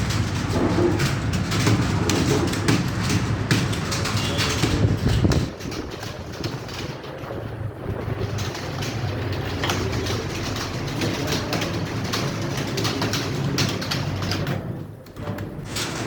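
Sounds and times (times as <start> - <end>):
keyboards clattering: 0.0 - 16.0.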